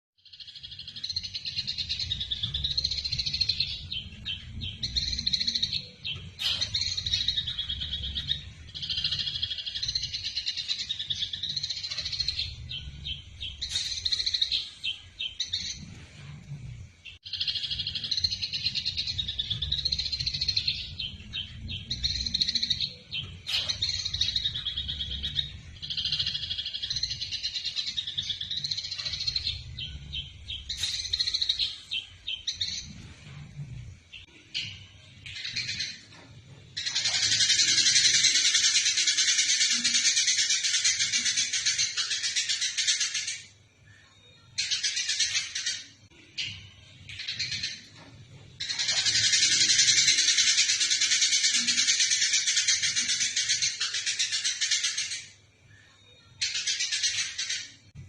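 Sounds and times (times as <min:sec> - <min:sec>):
sparrows chattering: 0:00.2 - 0:16.4, 0:17.1 - 0:33.5, 0:34.1 - 0:43.6, 0:44.5 - 0:55.4, 0:56.4 - 0:58.0.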